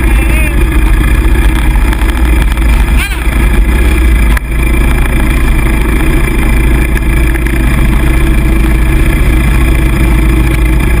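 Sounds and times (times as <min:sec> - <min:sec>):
off-road engines droning: 0:00.0 - 0:11.0.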